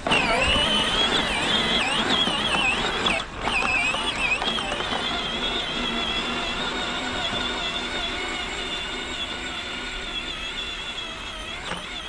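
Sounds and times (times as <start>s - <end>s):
ride-on toy motor whining: 0.0s - 12.0s.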